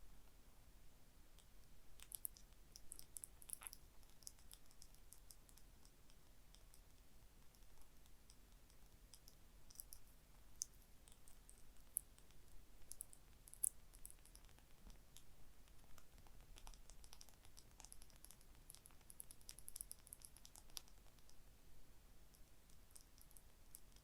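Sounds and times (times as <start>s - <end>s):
soft tapping and scratching: 1.4s - 21.4s.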